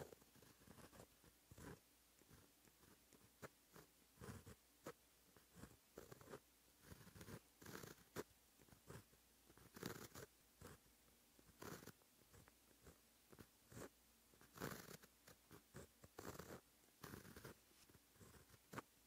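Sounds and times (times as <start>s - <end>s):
pen scratching on paper: 0.0s - 18.9s.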